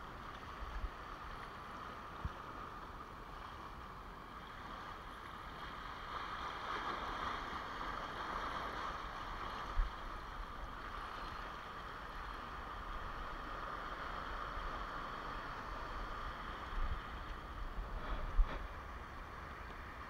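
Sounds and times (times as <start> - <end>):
small waves washing over rocks: 0.0 - 20.0.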